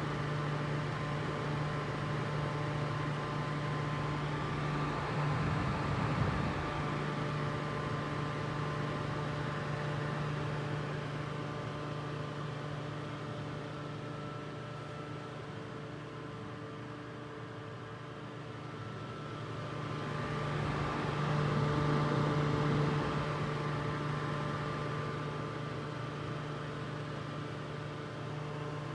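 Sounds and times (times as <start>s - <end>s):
fan whirring hum: 0.0s - 28.9s.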